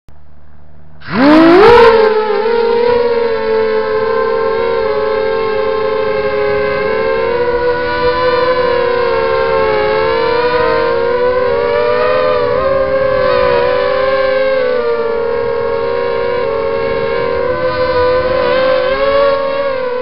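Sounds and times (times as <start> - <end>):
quadcopter motors whining: 1.0 - 20.0.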